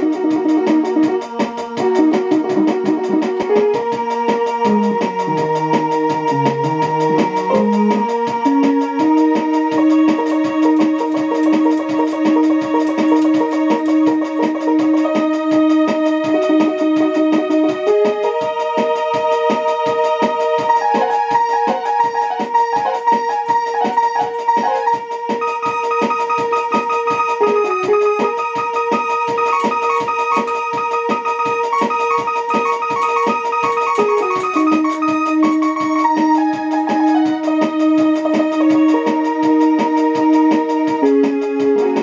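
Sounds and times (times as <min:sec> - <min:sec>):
electronic keyboard playing: 0:00.0 - 0:42.0.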